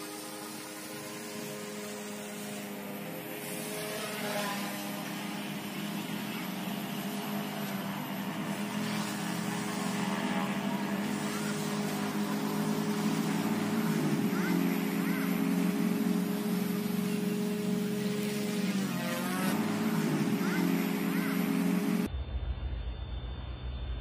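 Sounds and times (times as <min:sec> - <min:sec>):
rc helicopter motor whine: 0:00.0 - 0:22.1.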